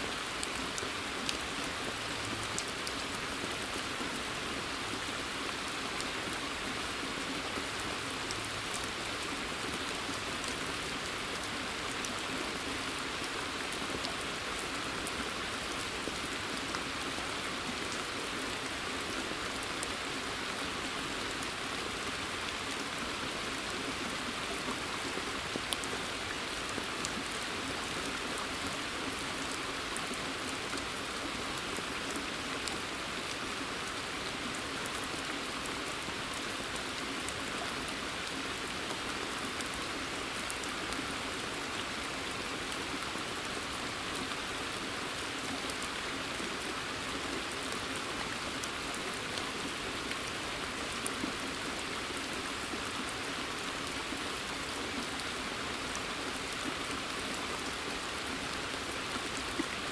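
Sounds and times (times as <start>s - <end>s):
rain hissing in forest: 0.0s - 59.9s
raindrops pattering on pond: 0.0s - 59.9s.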